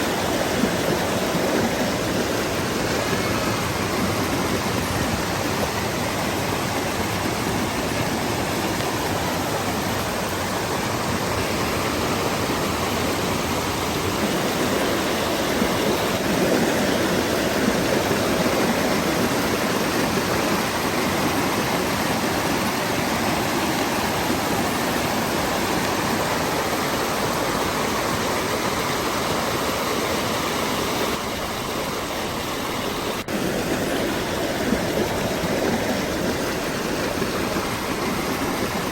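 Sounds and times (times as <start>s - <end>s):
waterfall pouring over rocks: 0.0s - 38.9s.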